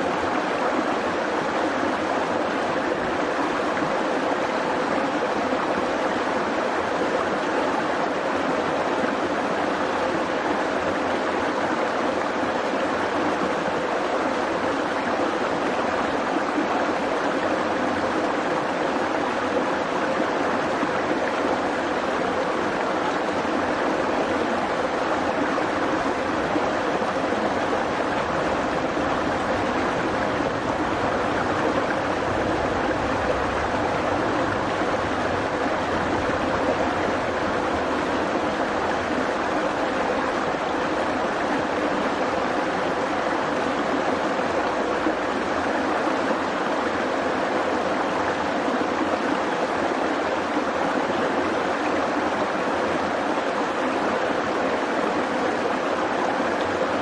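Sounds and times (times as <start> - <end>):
creek flowing over stones: 0.0 - 57.0.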